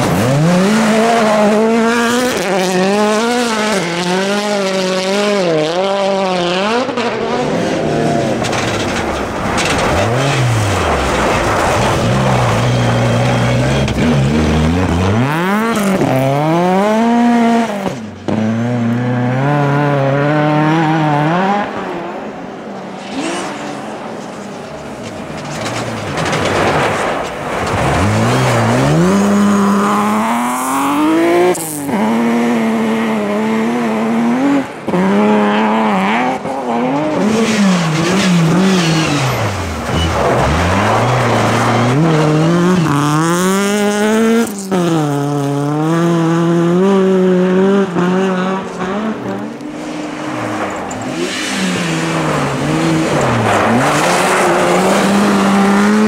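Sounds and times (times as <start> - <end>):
rally cars revving past: 0.0 - 8.8, 9.5 - 25.3, 26.2 - 56.0.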